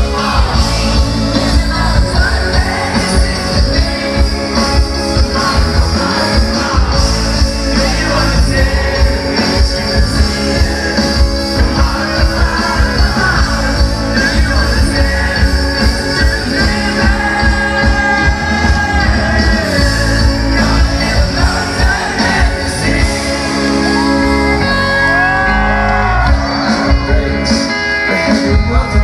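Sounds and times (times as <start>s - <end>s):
steady drum beat: 0.0s - 24.8s
electric guitar: 0.0s - 29.0s
person singing: 0.0s - 29.0s.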